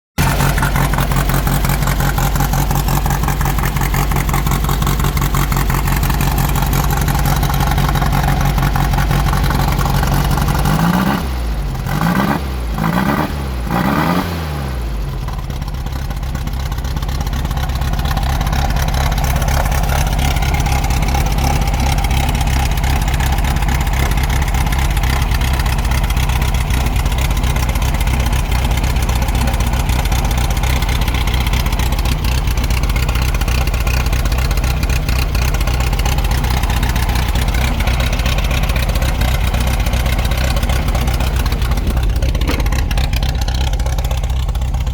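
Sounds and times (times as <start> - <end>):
car engine revving and idling: 0.2 - 44.9.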